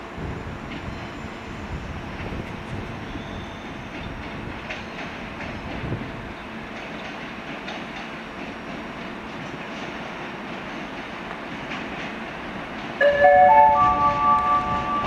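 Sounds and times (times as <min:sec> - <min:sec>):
train rumbling slowly: 0:00.0 - 0:15.0
train wheels clicking on track: 0:00.1 - 0:15.0.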